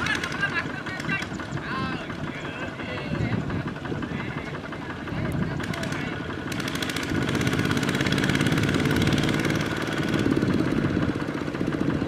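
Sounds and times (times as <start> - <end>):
diesel tractor engine running: 0.0 - 12.0
wheels churning in mud: 0.0 - 12.0.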